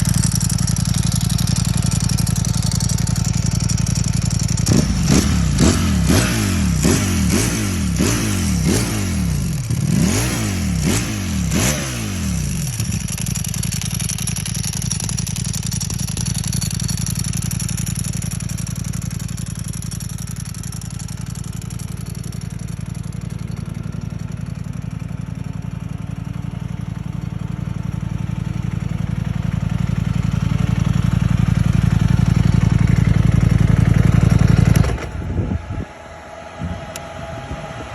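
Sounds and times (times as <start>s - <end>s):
motorcycle engine revving and idling: 0.0s - 37.9s.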